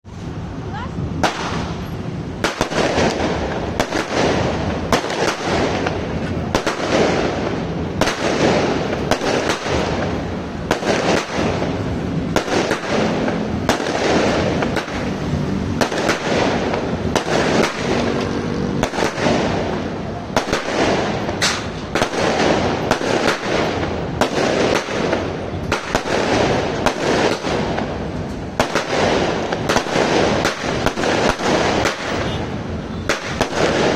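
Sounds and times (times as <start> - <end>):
firework reports: 0.1 - 33.9
firework shells crackling: 1.2 - 33.9.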